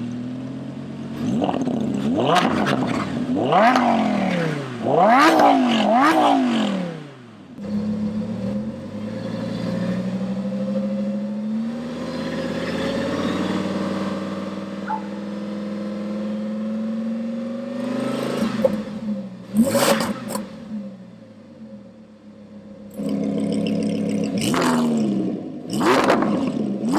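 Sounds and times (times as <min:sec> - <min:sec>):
sports car engine revving: 0:00.0 - 0:21.1, 0:22.6 - 0:26.9.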